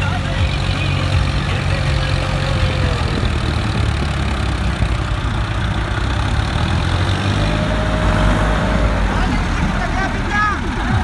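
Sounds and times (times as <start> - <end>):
second tractor engine: 0.0 - 11.0
tractor engine under heavy load: 0.0 - 11.0.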